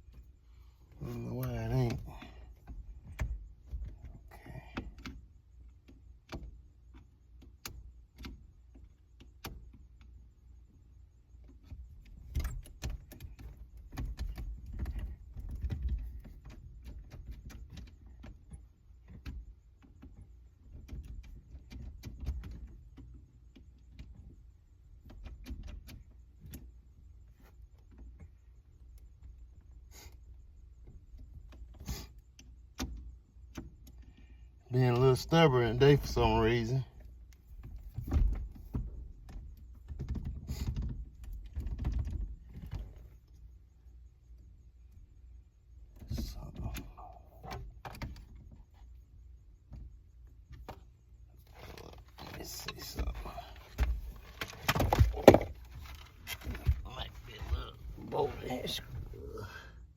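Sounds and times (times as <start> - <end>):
low rumble of handling noise: 0.0 - 59.9.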